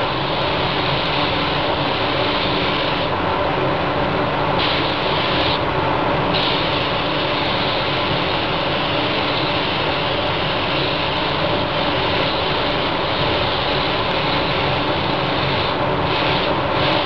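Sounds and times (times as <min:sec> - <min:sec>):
paint spray gun hissing: 0:00.0 - 0:03.2, 0:04.5 - 0:05.6, 0:06.3 - 0:17.0
ventilation rush and hum: 0:00.0 - 0:17.0.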